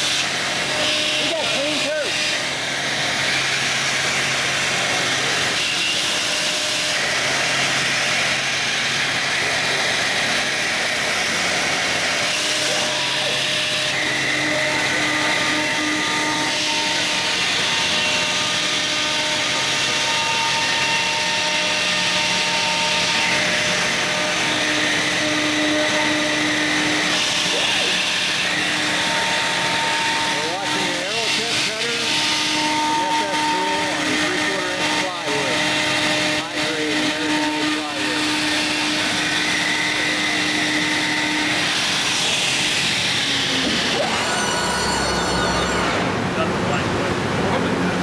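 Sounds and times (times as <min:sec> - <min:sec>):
router cutting plywood: 0:00.0 - 0:47.6.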